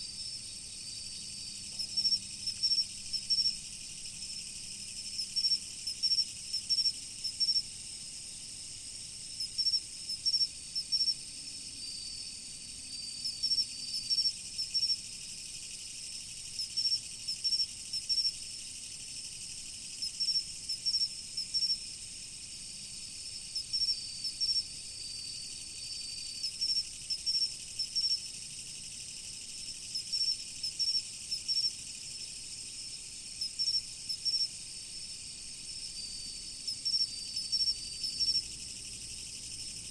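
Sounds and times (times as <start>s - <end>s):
crickets trilling: 0.0s - 39.9s
short loud cricket chirps: 0.0s - 39.9s.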